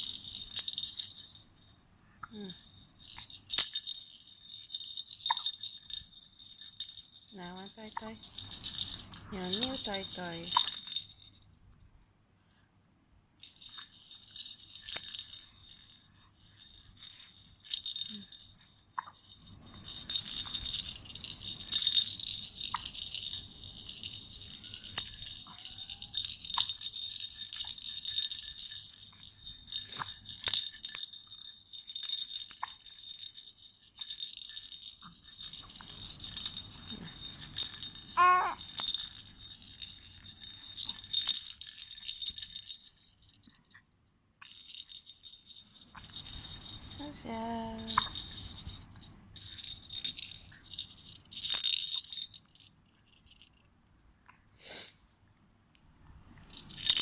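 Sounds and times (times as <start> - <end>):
baby rattle with bells jingling: 0.0 - 11.5, 13.4 - 43.8, 44.4 - 53.7, 56.3 - 57.0.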